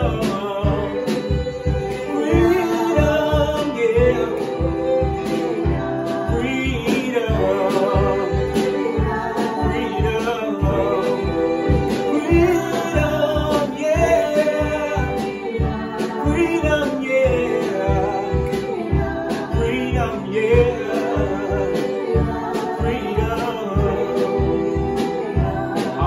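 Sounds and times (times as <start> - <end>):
backing music with steady beat: 0.0 - 26.0
people singing gospel song: 0.0 - 26.0.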